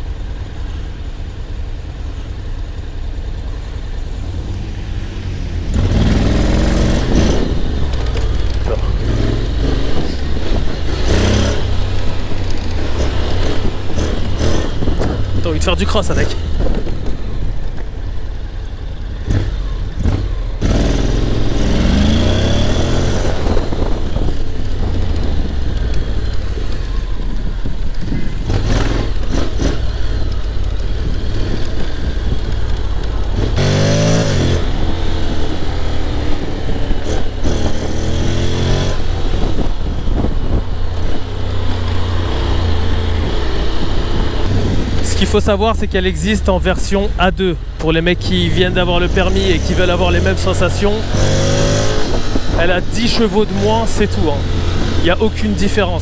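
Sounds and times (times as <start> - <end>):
motorcycle engine accelerating: 3.4 - 56.0.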